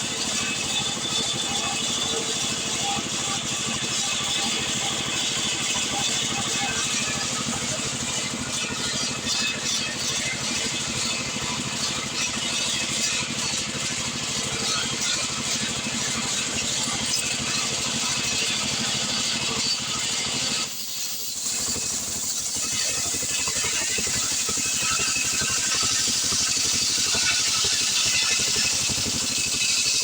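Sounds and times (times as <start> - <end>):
chainsaw cutting through log: 0.0 - 30.0.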